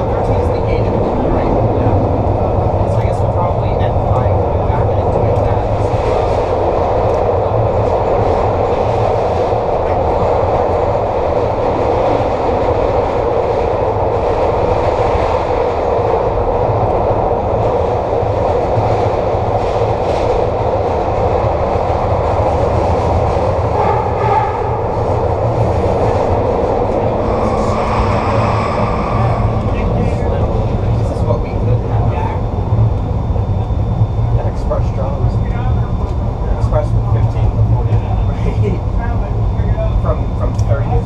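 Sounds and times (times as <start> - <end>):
light rail vehicle running: 0.0 - 41.0.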